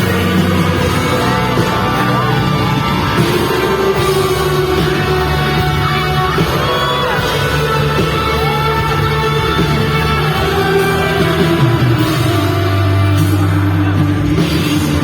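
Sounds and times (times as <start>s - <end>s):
loud music: 0.0s - 15.0s
person singing: 0.0s - 15.0s.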